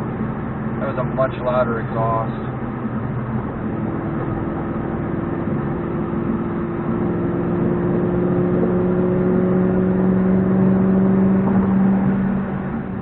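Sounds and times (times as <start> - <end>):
car engine accelerating from inside: 0.0 - 13.0.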